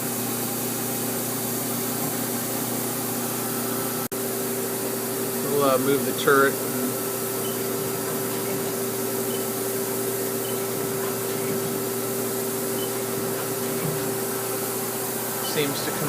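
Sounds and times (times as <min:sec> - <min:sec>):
lathe humming: 0:00.0 - 0:16.0.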